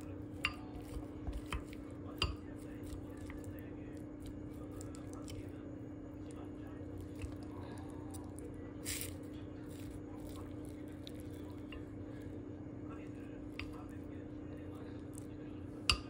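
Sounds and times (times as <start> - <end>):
low steady hum: 0.0 - 16.0
spoon mixing food squishing: 0.0 - 16.0.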